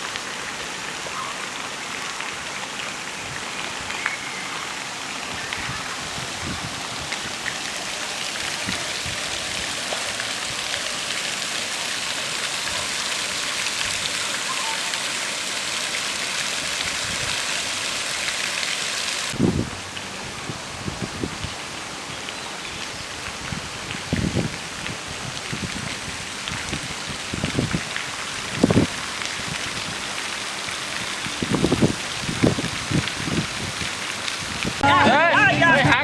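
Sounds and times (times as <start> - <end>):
rushing water hiss: 0.0 - 36.0.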